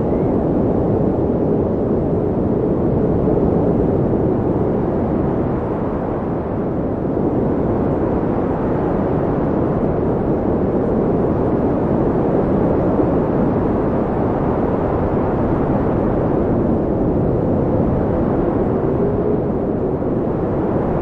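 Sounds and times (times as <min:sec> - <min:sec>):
steady wind rushing: 0:00.0 - 0:21.0.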